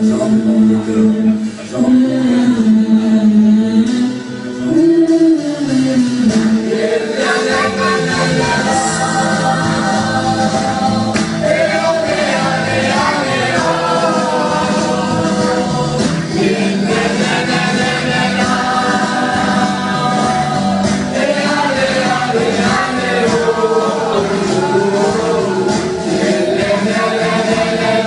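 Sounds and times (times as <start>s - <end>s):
voices singing together: 0.0s - 28.0s.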